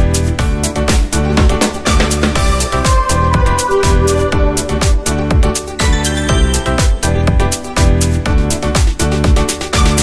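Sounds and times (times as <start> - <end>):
deep bass kick: 0.0 - 9.4
electronic music with beat: 0.0 - 10.0.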